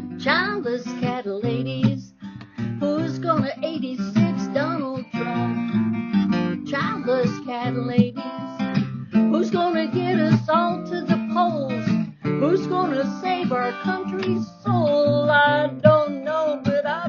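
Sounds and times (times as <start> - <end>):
person singing: 0.0 - 5.7, 6.7 - 17.0
strummed acoustic guitar: 0.0 - 17.0.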